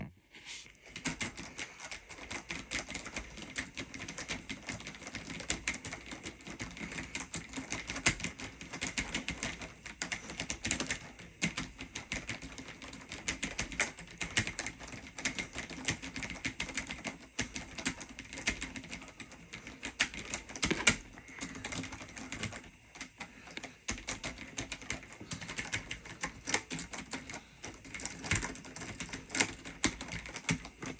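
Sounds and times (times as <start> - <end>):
fast keyboard typing: 0.8 - 30.9.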